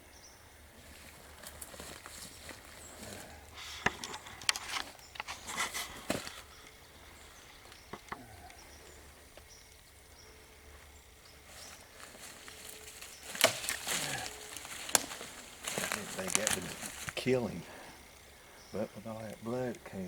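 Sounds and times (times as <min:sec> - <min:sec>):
rustling in woodland ground cover: 0:00.0 - 0:20.0.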